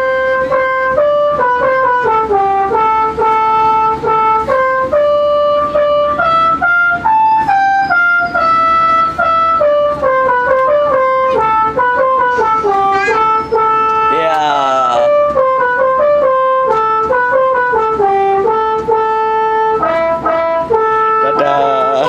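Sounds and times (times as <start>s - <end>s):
musical air horn playing a tune: 0.0s - 22.0s.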